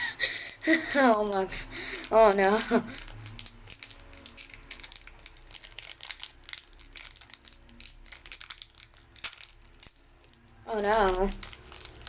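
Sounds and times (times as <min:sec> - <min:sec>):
foil wrapper crinkling and tearing: 0:00.2 - 0:12.0.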